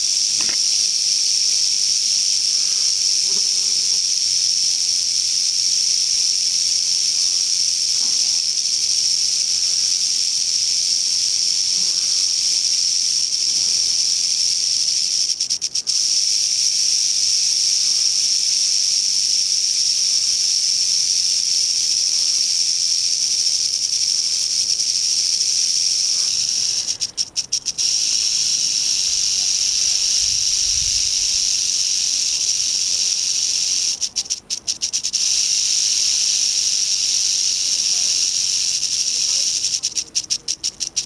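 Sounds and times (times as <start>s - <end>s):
rattlesnake rattling: 0.0s - 41.0s.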